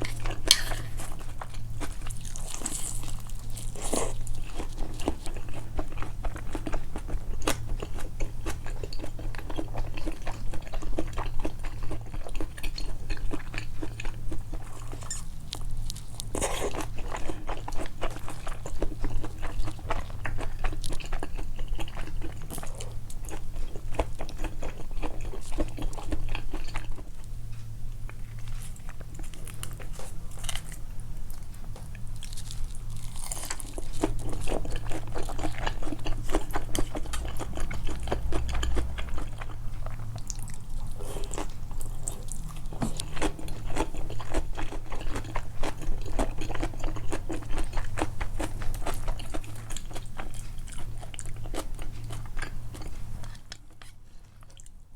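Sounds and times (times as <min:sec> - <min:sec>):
close chewing and crunching food: 0:00.0 - 0:54.9.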